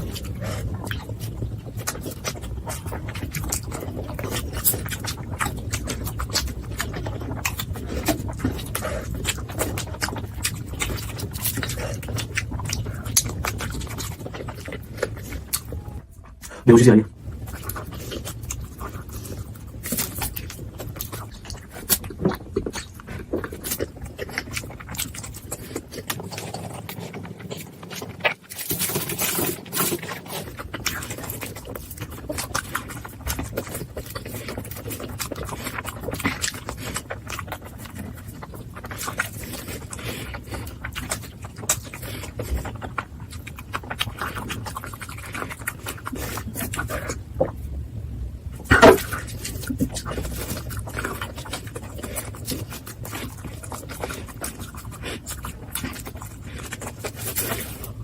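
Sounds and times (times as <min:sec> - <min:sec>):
chewing and mouth sounds: 0:00.0 - 0:58.0.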